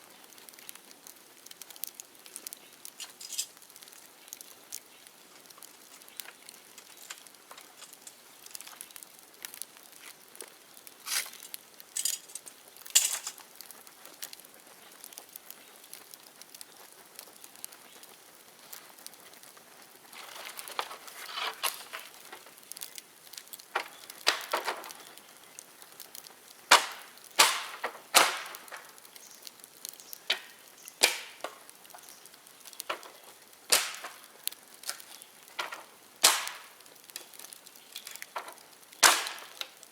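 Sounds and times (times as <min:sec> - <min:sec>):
bamboo fire crackling: 0:00.0 - 0:39.9
sharp pops and snaps: 0:00.2 - 0:39.9.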